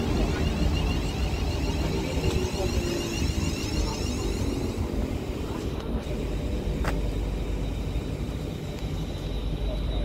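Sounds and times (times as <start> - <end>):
train motor whine: 0.0 - 10.0
wheels rumbling on track: 0.0 - 10.0.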